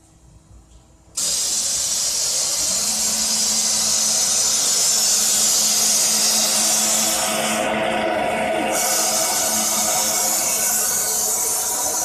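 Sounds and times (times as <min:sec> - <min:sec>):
machine low hum: 0:00.0 - 0:12.0
loud hiss of air or spray: 0:01.2 - 0:12.0.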